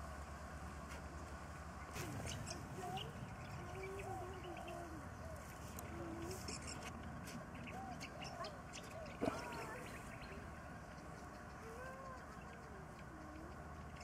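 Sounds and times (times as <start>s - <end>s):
birds calling: 1.1s - 14.0s.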